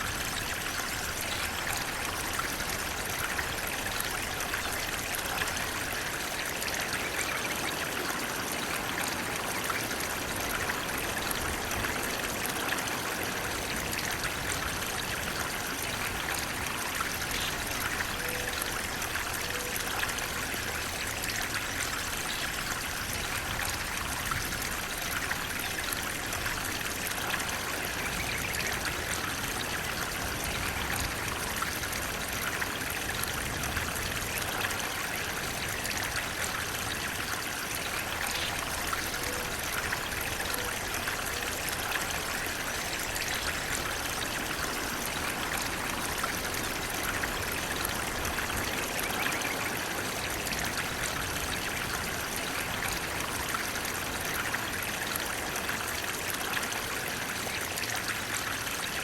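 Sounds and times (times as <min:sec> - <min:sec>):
water flowing and trickling: 0:00.0 - 0:59.0.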